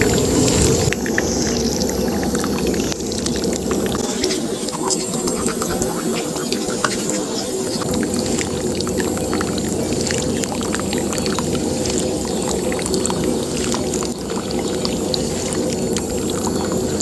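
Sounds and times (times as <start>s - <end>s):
low pump hum: 0.0s - 17.0s
small ticks and splashes: 0.0s - 17.0s
water pouring from pipe: 0.0s - 17.0s.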